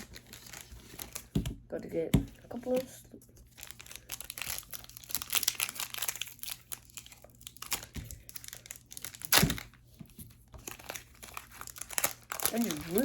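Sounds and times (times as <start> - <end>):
foil wrapper crinkling and tearing: 0.0 - 1.4, 2.6 - 13.0.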